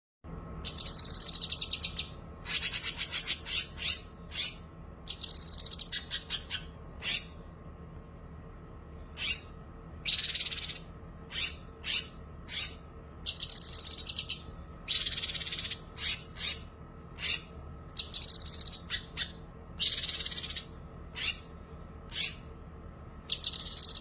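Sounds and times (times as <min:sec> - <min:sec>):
bird whistled calls: 0:00.6 - 0:07.3, 0:09.2 - 0:21.5, 0:22.1 - 0:22.4, 0:23.3 - 0:24.0
bird singing high trills: 0:00.6 - 0:07.4, 0:09.0 - 0:22.5, 0:23.3 - 0:24.0.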